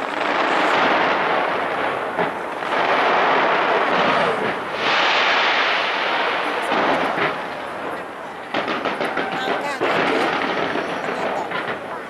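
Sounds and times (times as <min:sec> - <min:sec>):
firework bang: 0:00.0 - 0:12.0
fireworks crackling and rumbling: 0:00.0 - 0:12.0.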